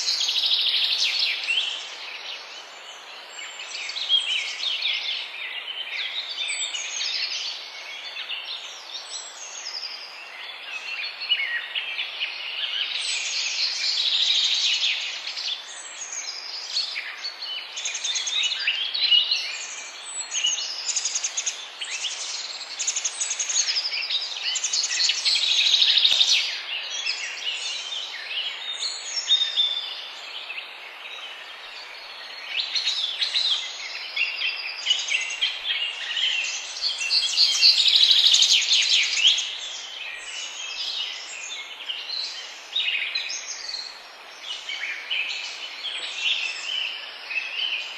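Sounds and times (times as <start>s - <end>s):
songbirds chirping and trilling: 0.0s - 47.9s
steady background hiss: 0.0s - 47.9s.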